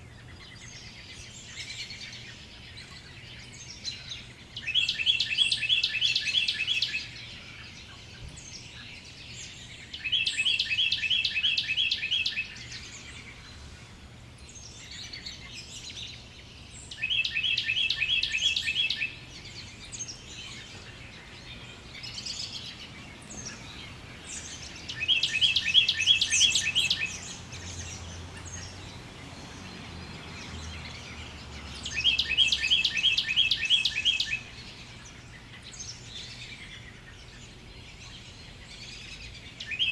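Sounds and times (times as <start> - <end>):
bird trilled song: 0.0 - 39.9
faint bird chirps: 0.0 - 39.9.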